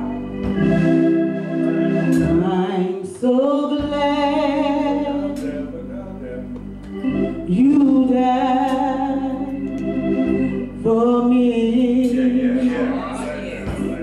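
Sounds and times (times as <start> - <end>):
gospel choir singing: 0.0 - 14.0
organ accompaniment: 0.0 - 14.0.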